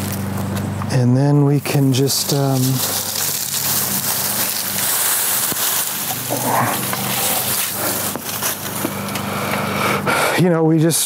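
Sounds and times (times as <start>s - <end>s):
branches rustling and scraping: 0.0s - 0.8s, 1.4s - 9.8s.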